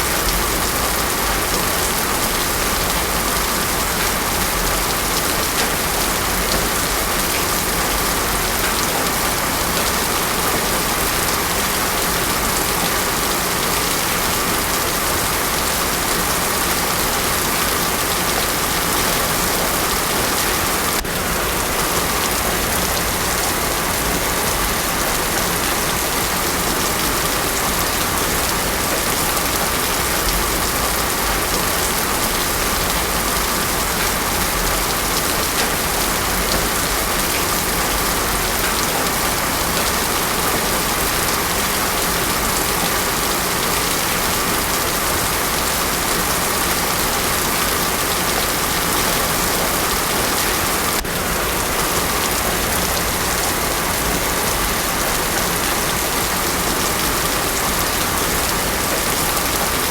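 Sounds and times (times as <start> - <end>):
heavy rain on a paved road: 0.0 - 59.9.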